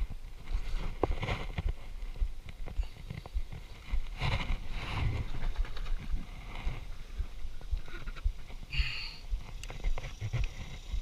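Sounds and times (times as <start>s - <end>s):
rustling: 0.0s - 8.8s.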